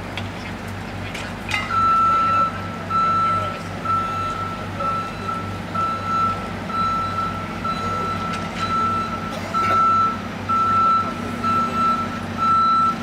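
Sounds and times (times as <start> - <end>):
engine rumble: 0.0 - 13.0
reversing alarm beeping: 1.7 - 13.0.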